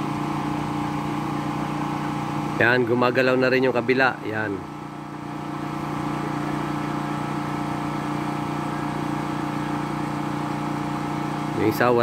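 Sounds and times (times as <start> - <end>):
electric water pump humming: 0.0 - 12.0.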